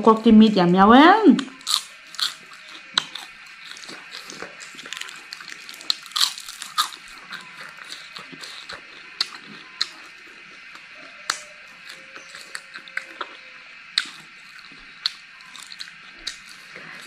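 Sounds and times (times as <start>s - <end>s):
crunchy chewing: 1.4s - 17.0s.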